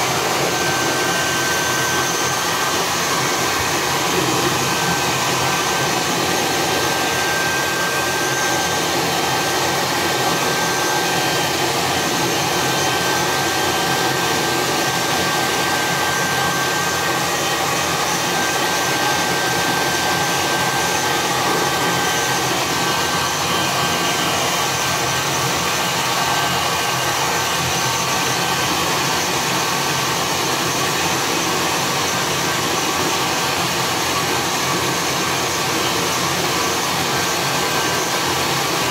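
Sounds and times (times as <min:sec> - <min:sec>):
hair dryer blowing air: 0:00.0 - 0:38.9.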